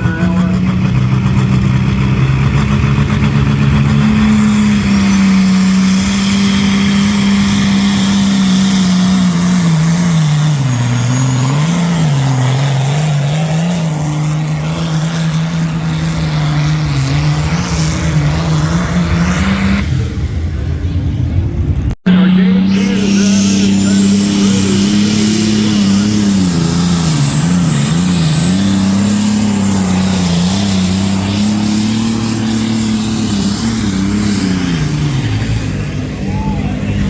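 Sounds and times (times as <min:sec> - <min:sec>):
vehicle engine under full load: 0:00.0 - 0:37.0.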